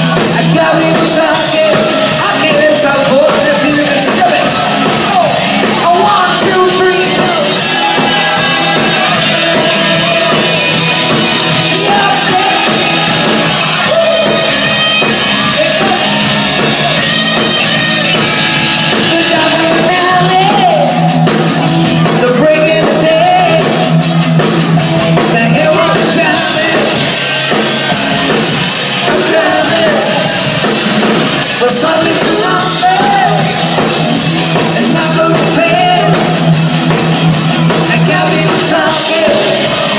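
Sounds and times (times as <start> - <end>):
person singing: 0.0 - 24.2, 25.2 - 30.8, 31.4 - 37.0, 37.6 - 39.9
drum kit: 0.0 - 39.9
electric guitars: 0.0 - 39.9.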